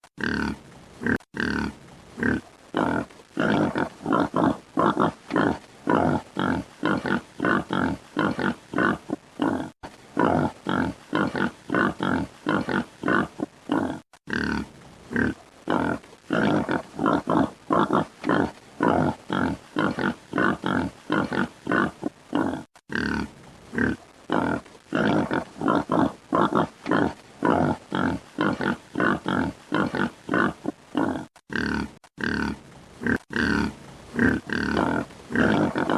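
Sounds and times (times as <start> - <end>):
wild boar grunting: 0.2 - 35.9.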